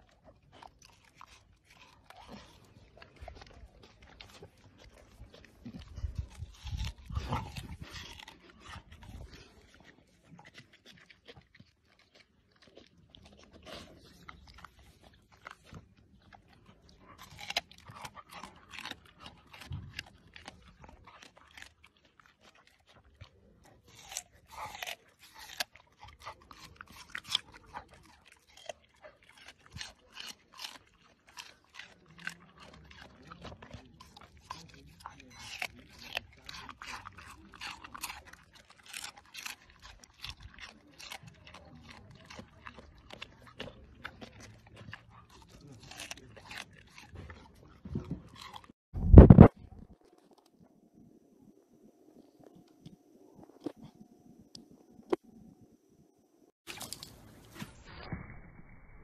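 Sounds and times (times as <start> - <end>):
dog crunching watermelon: 0.0 - 50.8, 52.1 - 54.0, 56.6 - 58.1.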